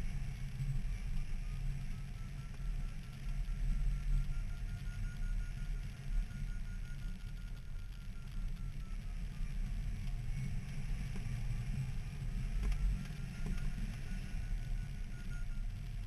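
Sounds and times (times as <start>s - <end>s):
faint rapid beeping tone: 0.1s - 16.0s.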